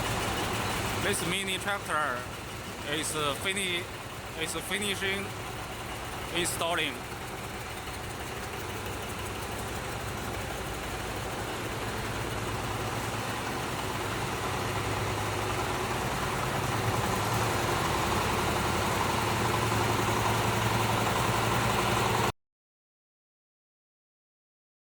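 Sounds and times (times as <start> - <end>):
cultivator engine running: 0.0 - 22.3.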